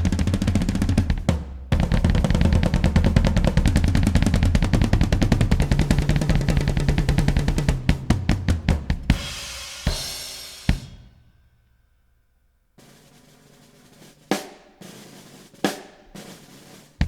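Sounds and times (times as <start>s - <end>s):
rapid drum roll: 0.0s - 11.2s, 12.8s - 17.0s.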